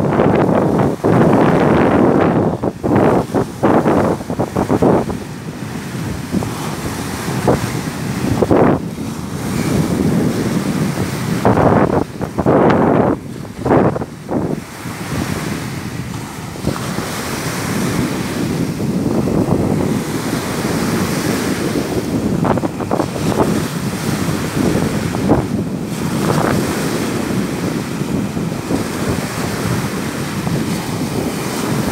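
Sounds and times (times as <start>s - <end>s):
small waves breaking on shore: 0.0s - 31.9s
wind rumbling on microphone: 0.0s - 31.9s.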